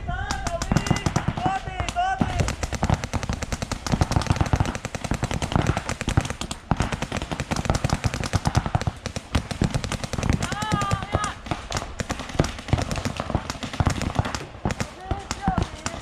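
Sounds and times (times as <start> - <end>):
paintball markers firing: 0.2 - 16.0.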